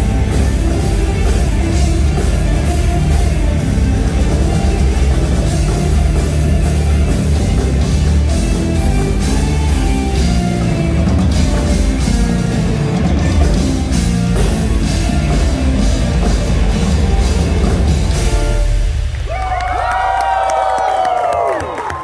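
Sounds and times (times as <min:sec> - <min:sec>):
rock band playing: 0:00.0 - 0:20.0
drum hits: 0:00.0 - 0:20.4.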